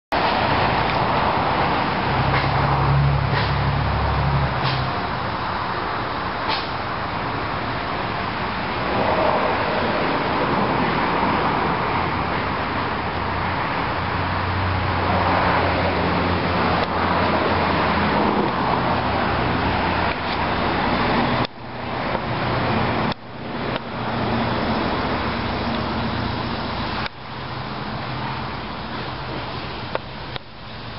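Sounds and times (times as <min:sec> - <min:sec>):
car engine humming: 0:00.1 - 0:30.9
road noise: 0:00.1 - 0:30.9.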